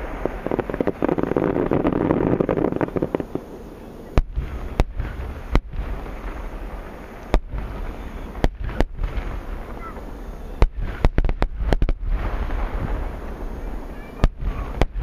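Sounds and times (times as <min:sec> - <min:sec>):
deep firework booms: 0:00.0 - 0:15.0
fireworks crackling: 0:00.0 - 0:15.0.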